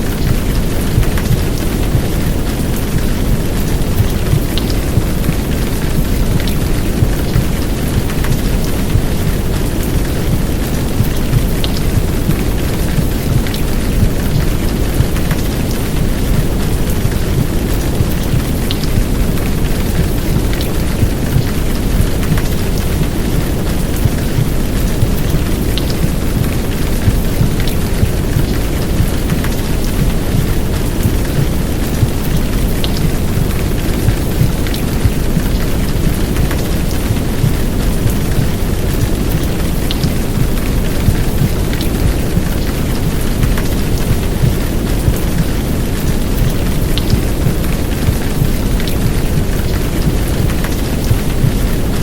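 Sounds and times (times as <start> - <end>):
heavy rain: 0.0 - 52.0
sharp drip ticks: 0.1 - 52.0.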